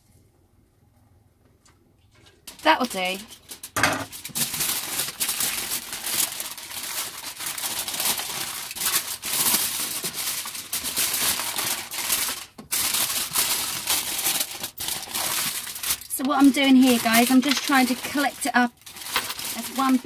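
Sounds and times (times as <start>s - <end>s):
aluminium foil crinkling: 2.0s - 20.0s.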